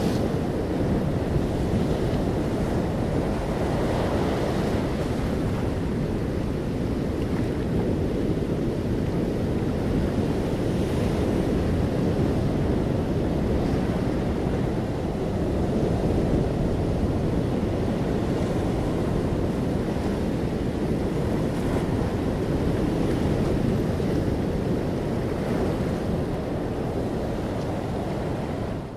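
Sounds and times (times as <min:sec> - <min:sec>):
sea waves washing onto shore: 0:00.0 - 0:28.9
wind buffeting microphone: 0:00.0 - 0:28.9.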